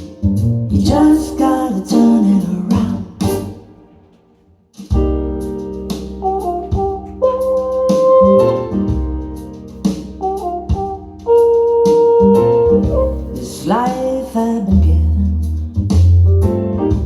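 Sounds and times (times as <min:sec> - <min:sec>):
band playing bass and chords: 0:00.0 - 0:04.0, 0:04.8 - 0:17.0.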